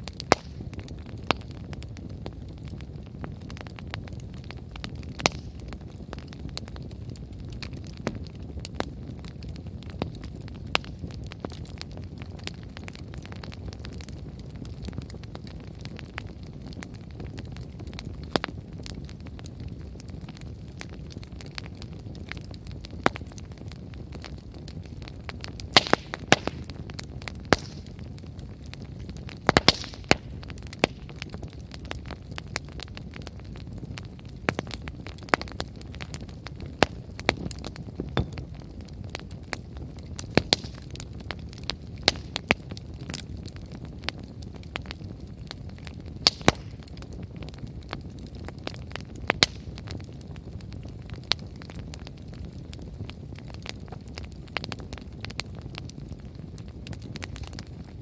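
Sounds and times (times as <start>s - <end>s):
firewood crackling and popping: 0.0s - 58.0s
low fire rumble: 0.0s - 58.0s.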